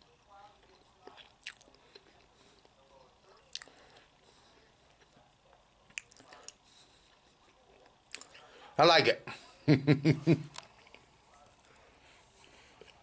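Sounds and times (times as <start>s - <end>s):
man chewing food: 0.5s - 8.6s, 10.4s - 13.0s.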